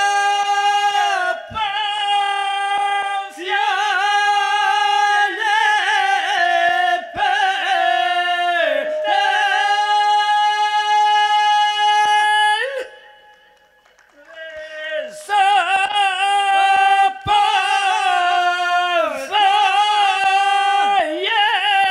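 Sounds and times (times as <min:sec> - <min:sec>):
man singing unaccompanied: 0:00.0 - 0:13.0, 0:14.4 - 0:21.9.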